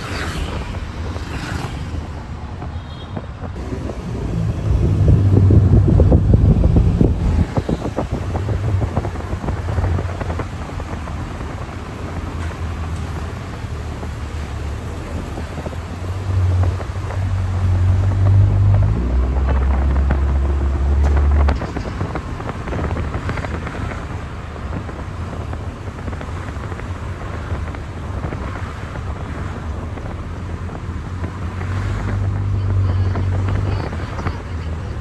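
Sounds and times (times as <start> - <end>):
vehicle engine and road rumble: 0.0 - 35.0
wind buffeting microphone: 0.0 - 35.0.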